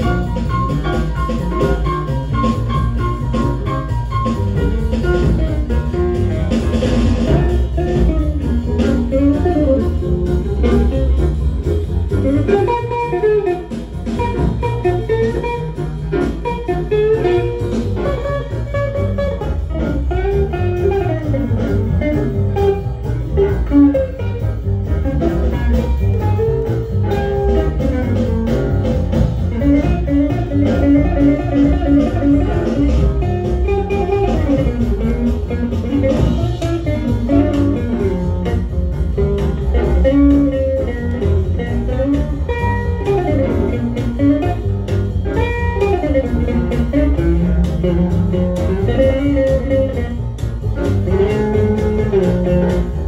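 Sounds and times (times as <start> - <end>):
jazz record playing on turntable: 0.0 - 53.0.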